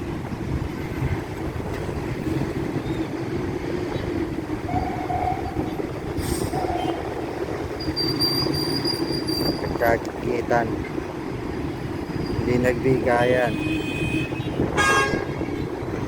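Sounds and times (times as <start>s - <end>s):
heavy road traffic rumble: 0.0s - 16.0s.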